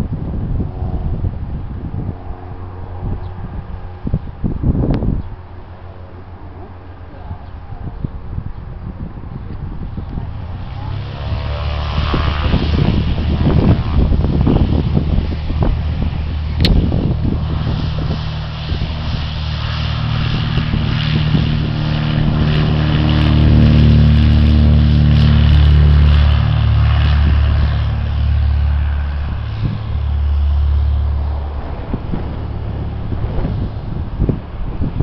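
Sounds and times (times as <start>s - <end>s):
propeller plane engine at full power: 0.0s - 35.0s
wind rumbling on microphone: 0.0s - 35.0s.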